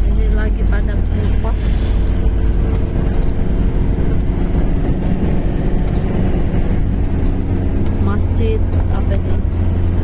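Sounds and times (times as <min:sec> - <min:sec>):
low road rumble: 0:00.0 - 0:10.0
vehicle engine drone: 0:00.0 - 0:10.0.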